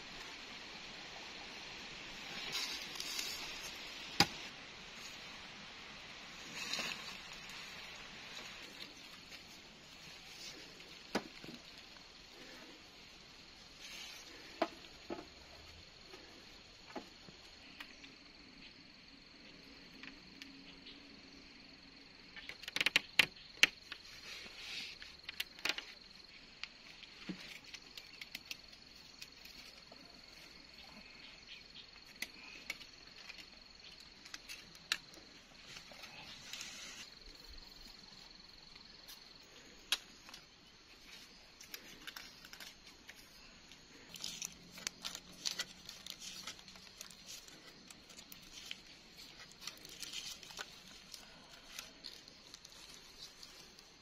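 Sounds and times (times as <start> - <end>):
high insect whine: 0.0 - 54.0.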